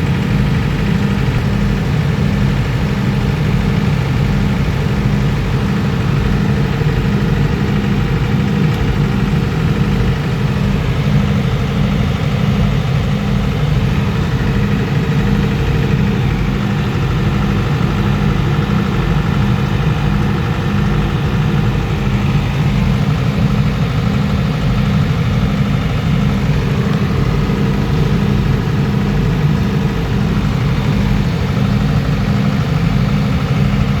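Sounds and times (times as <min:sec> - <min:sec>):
diesel generator running: 0:00.0 - 0:34.0.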